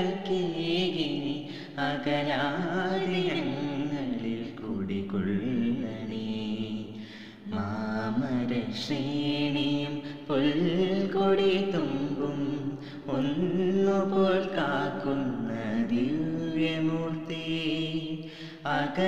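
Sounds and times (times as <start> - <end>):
boy and girl singing together: 0.0 - 19.0.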